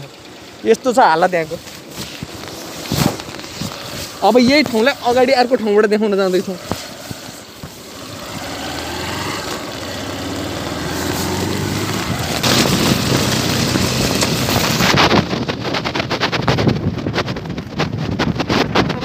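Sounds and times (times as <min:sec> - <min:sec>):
motorcycle engine running: 0:00.0 - 0:19.0
wind buffeting microphone: 0:01.5 - 0:19.0.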